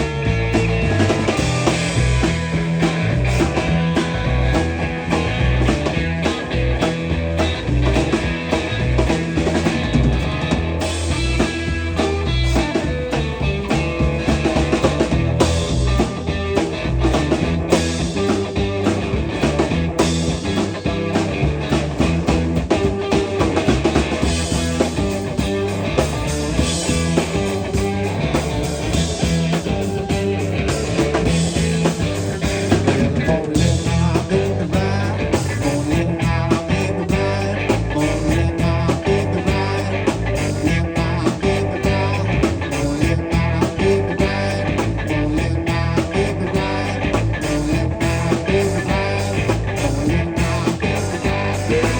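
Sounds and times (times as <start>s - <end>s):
drum kit beat: 0.0s - 51.9s
electric guitar playing: 0.0s - 51.9s.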